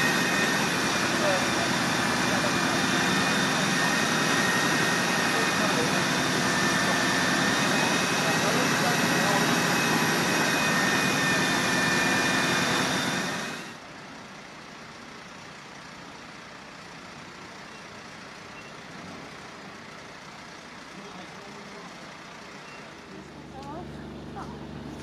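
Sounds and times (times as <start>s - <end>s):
fire engines humming: 0.0s - 25.0s
loud engine with a whine: 0.0s - 25.0s.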